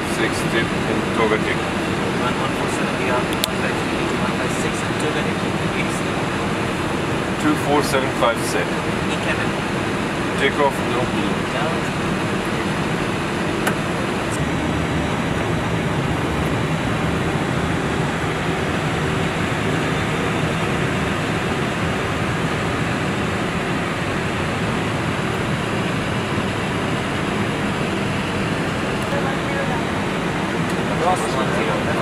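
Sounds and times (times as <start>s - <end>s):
air-conditioning airflow rushing: 0.0s - 32.0s
jet engines idling: 0.0s - 32.0s.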